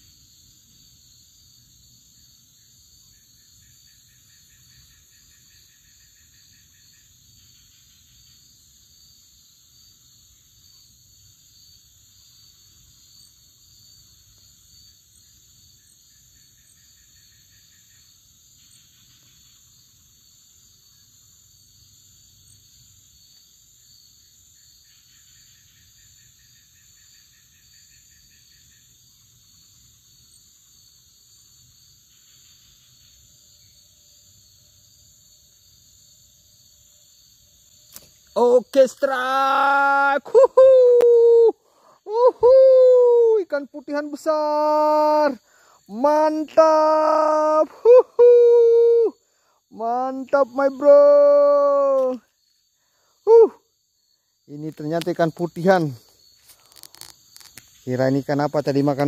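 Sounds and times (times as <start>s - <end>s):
insects chirring: 0.0s - 59.0s
low pulsed insect trill: 0.0s - 59.0s.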